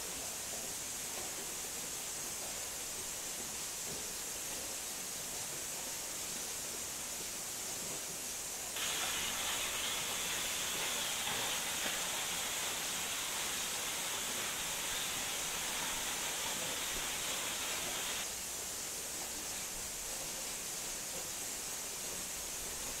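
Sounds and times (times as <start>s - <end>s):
waterfall rushing into pool: 0.0s - 23.0s.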